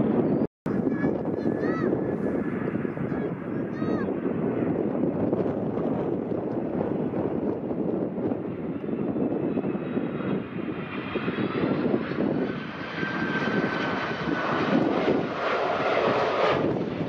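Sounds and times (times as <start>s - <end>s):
jet airliner engines passing: 0.0s - 17.0s.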